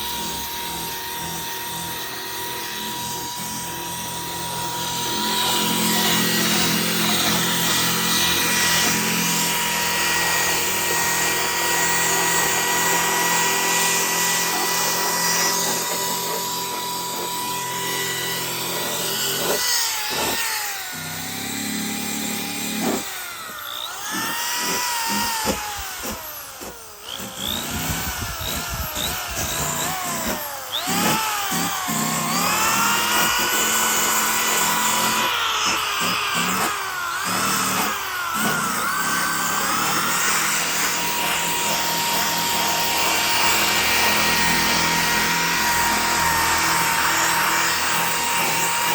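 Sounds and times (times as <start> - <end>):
electric drill motor whine: 0.0 - 48.9.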